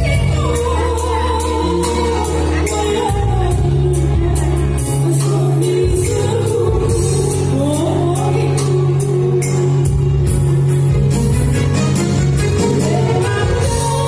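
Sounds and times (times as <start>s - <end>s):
person singing: 0.0s - 10.4s, 12.6s - 14.0s
instrumental accompaniment with beat: 0.0s - 14.0s.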